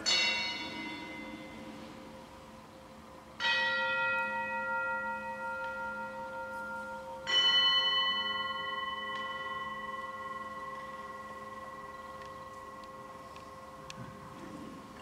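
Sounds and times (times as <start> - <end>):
altar bell ringing: 0.0 - 1.8, 3.4 - 13.9.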